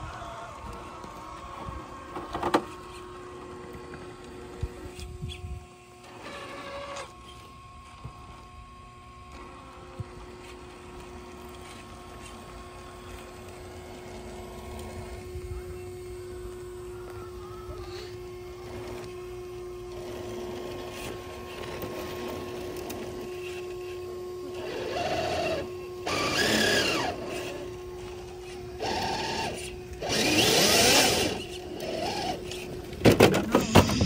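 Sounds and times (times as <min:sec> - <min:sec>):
toy truck electric motor whirring: 0:00.0 - 0:34.0.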